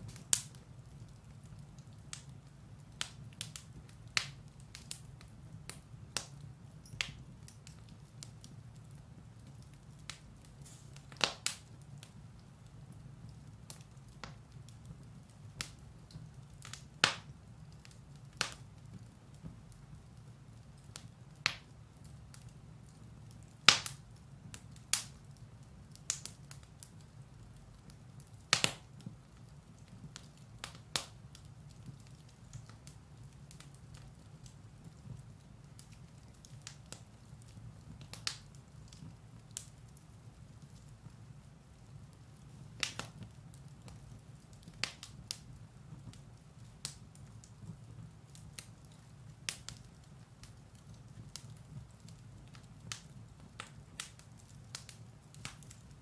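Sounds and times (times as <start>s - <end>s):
fire rumbling: 0.0s - 56.0s
firewood crackling and popping: 0.0s - 56.0s.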